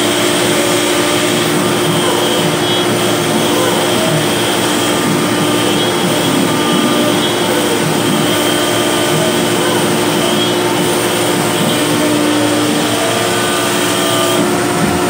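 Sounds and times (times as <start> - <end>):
dust extraction rushing hiss: 0.0 - 15.0
router spindle cutting wood: 0.0 - 15.0.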